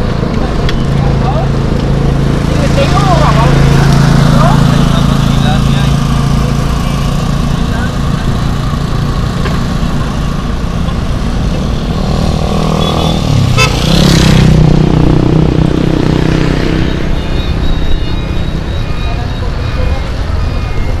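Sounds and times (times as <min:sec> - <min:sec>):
motorcycle passing: 0:00.0 - 0:21.0
steady engine rumble: 0:00.0 - 0:21.0.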